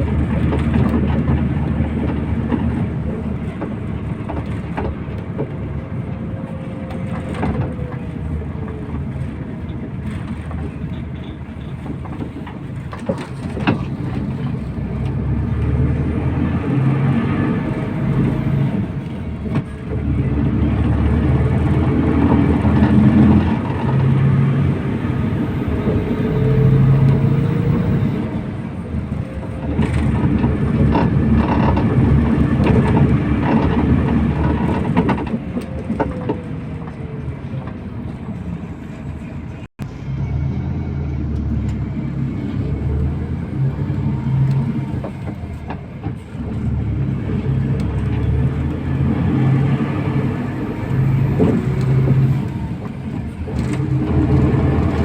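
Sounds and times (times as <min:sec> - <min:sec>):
bus engine hum: 0:00.0 - 0:55.0
road and tyre noise: 0:00.0 - 0:55.0.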